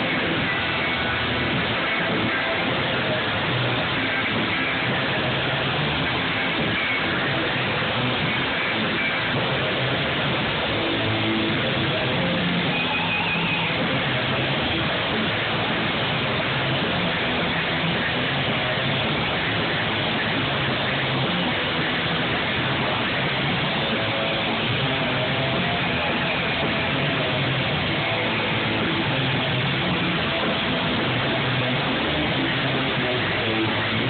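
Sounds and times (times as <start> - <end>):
live metal band playing: 0.0 - 34.0.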